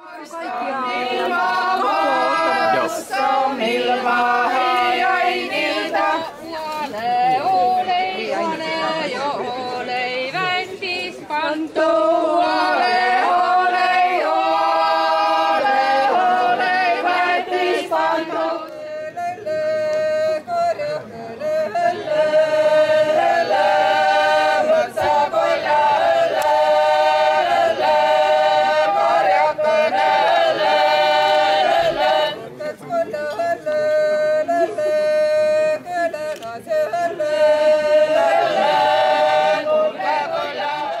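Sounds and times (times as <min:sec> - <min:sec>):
choir singing a cappella: 0:00.0 - 0:41.0.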